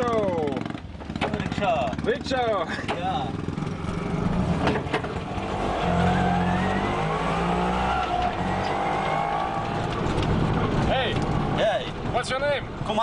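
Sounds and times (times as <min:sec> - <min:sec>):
auto-rickshaw engine accelerating: 0:00.0 - 0:13.0
road noise: 0:00.0 - 0:13.0.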